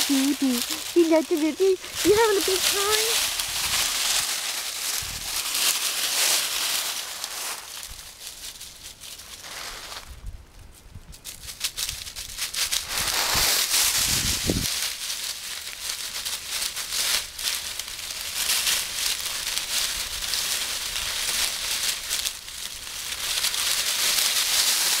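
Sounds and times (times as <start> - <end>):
dry leaves crunching: 0.0 - 10.2, 11.2 - 25.0.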